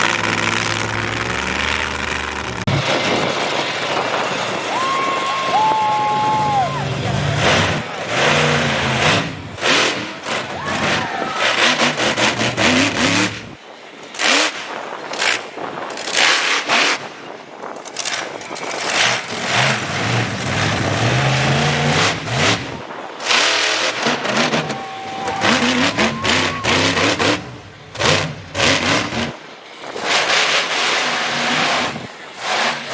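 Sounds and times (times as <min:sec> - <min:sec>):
monster truck engine revving: 0:00.0 - 0:32.9.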